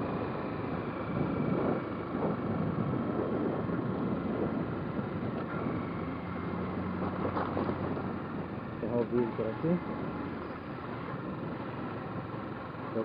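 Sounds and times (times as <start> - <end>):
wind buffeting microphone: 0.0 - 10.4, 11.1 - 12.3
road noise: 0.0 - 13.0.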